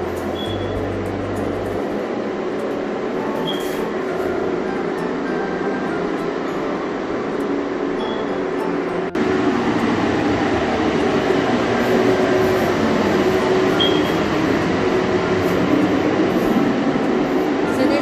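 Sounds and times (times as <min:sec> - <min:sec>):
motor or fan droning: 0:00.0 - 0:18.0.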